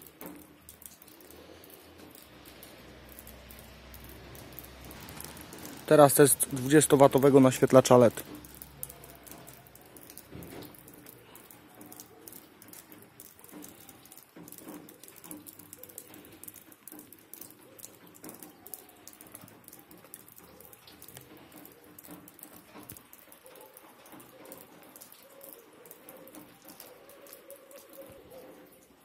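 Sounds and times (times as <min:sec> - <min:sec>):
light rain pattering: 0:00.0 - 0:29.0.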